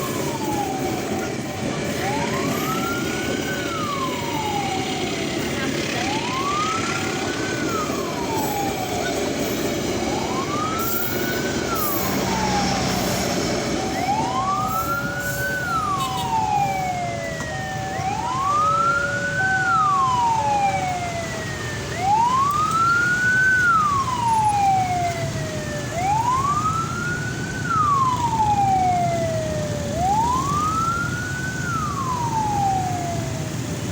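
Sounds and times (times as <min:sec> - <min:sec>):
two-tone siren: 0:00.0 - 0:33.9
wailing siren: 0:00.0 - 0:33.9.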